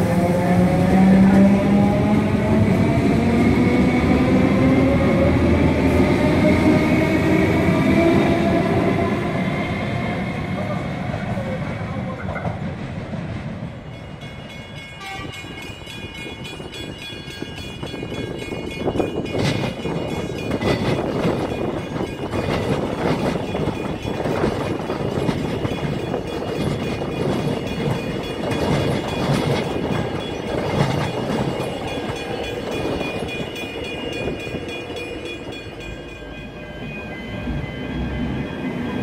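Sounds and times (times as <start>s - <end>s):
wheel and rail noise: 0.0s - 39.0s.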